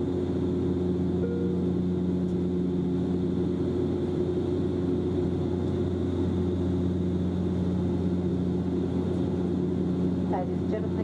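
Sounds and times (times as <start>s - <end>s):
turboprop engines droning in cabin: 0.0s - 11.0s.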